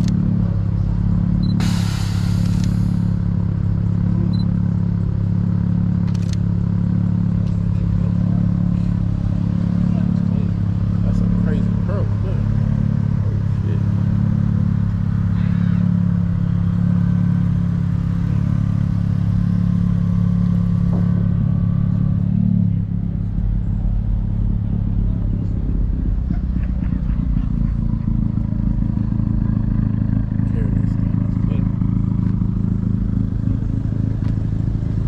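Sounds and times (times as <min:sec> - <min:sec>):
car engine rumbling: 0:00.0 - 0:35.0.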